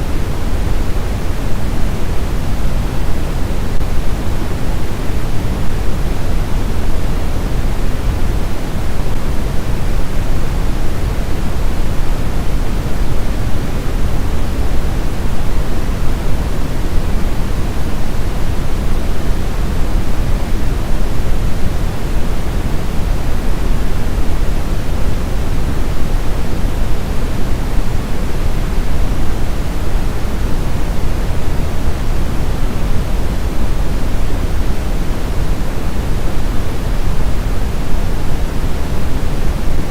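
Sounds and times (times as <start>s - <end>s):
steady low noise: 0.0s - 39.9s.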